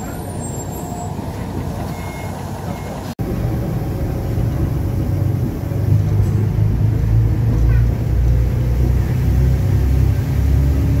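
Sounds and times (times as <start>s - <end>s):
diesel railbus engine running: 0.0s - 11.0s.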